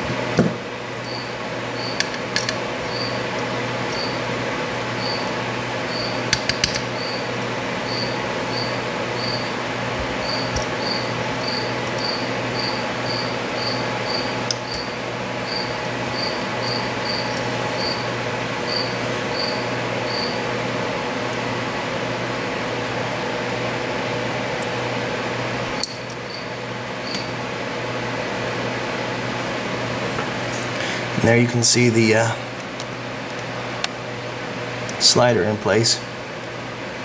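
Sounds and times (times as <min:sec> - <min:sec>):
room hum: 0:00.0 - 0:37.0.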